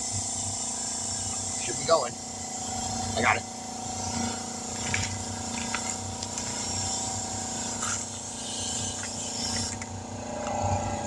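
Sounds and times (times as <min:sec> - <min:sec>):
compressed air hissing: 0:00.0 - 0:09.8
motor running: 0:00.0 - 0:11.0.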